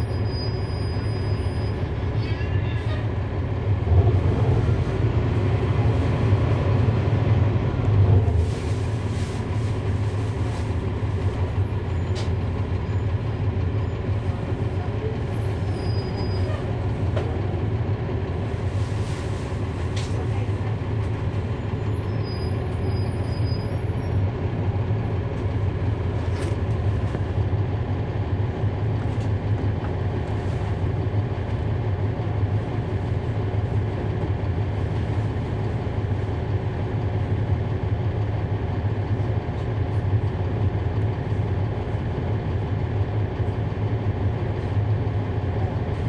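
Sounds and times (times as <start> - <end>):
bus diesel engine humming: 0.0 - 46.0.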